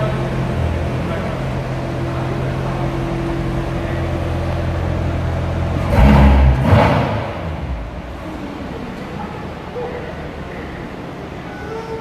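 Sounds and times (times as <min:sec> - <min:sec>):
car engine idling and revving: 0:00.0 - 0:09.8.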